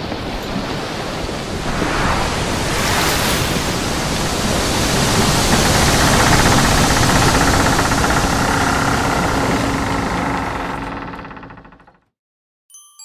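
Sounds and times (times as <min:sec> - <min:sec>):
steady rushing noise: 0:00.8 - 0:11.7.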